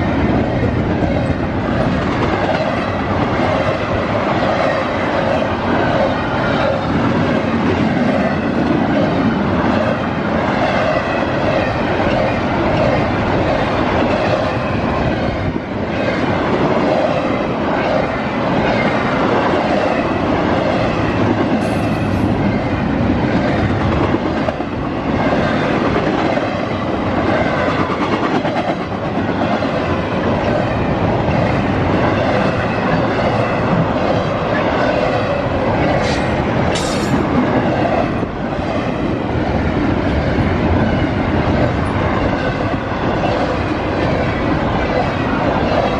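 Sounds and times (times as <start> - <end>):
freight train passing: 0.0 - 45.9.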